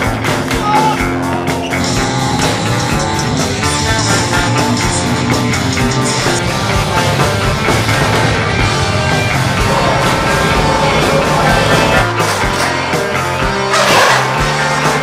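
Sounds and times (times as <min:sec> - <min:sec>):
punk rock song: 0:00.0 - 0:15.0.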